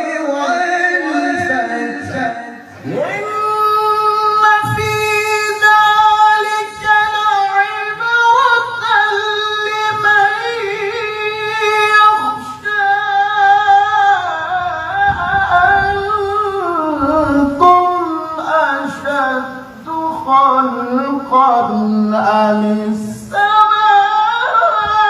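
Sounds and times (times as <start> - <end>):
man reciting in high register: 0.0 - 25.0.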